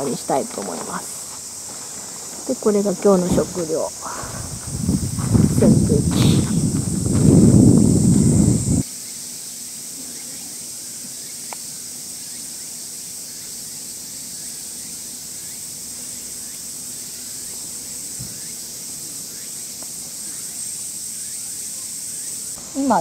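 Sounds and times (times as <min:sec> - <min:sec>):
faint insect chirps: 0:00.0 - 0:23.0
insects droning: 0:00.0 - 0:23.0.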